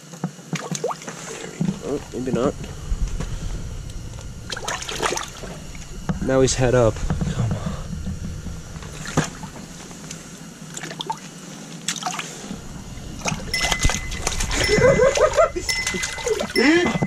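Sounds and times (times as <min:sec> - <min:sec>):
water splashing and sloshing: 0:00.2 - 0:17.0
wavering pitched sound: 0:01.1 - 0:10.7, 0:12.4 - 0:17.0
steady high tone: 0:01.3 - 0:10.6, 0:12.4 - 0:17.0.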